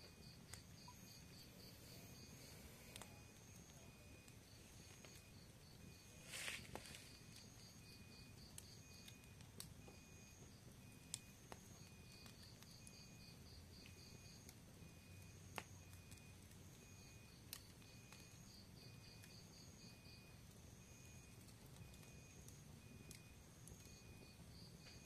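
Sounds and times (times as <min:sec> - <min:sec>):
fire crackling: 0:00.0 - 0:25.0
insects chirping: 0:00.0 - 0:25.0
low rumble of flame: 0:00.0 - 0:25.0.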